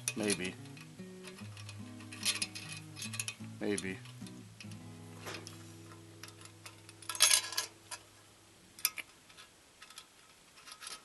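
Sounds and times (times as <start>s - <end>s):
metal parts clicking and scraping: 0.0s - 8.1s, 8.8s - 11.0s.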